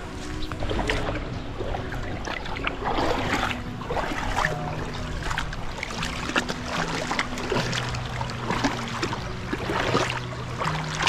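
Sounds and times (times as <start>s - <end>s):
low steady hum: 0.0s - 11.0s
water splashing while wading: 0.0s - 11.0s.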